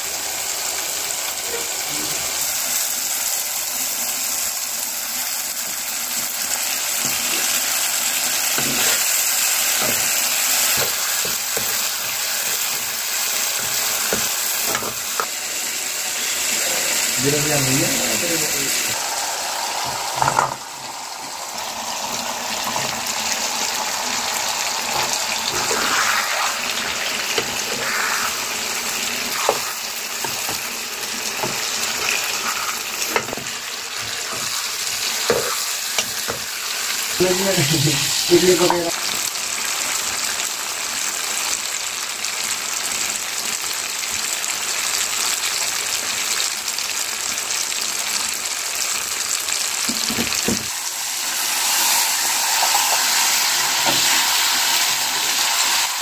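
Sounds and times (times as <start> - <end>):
potatoes sizzling in a pan: 0.0 - 56.0.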